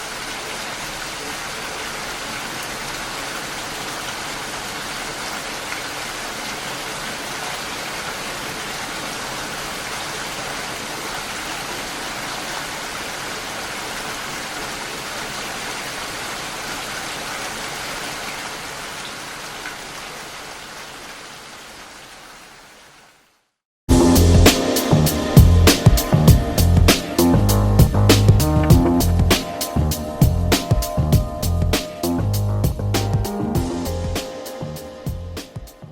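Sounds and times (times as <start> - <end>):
steady rain hiss: 0.0 - 35.9.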